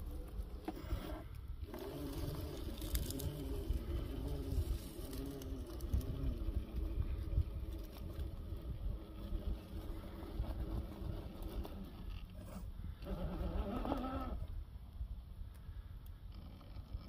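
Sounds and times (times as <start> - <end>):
electric motor and gearbox whining: 0.0 - 14.6.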